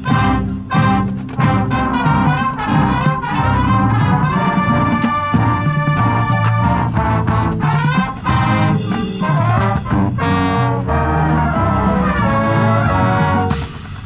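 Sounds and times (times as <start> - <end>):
brass band playing chords: 0.0 - 14.0.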